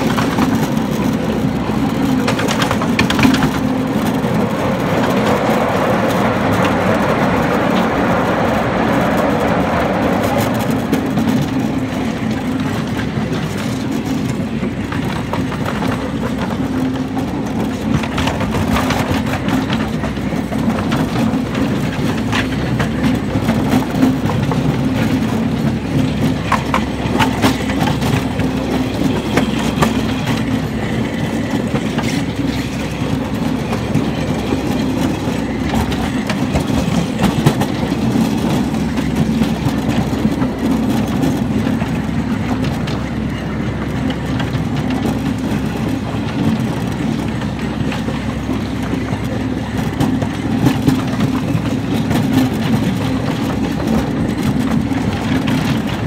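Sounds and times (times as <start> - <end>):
ride-on train droning: 0.0 - 56.0
wheels clicking on rails: 0.0 - 56.0.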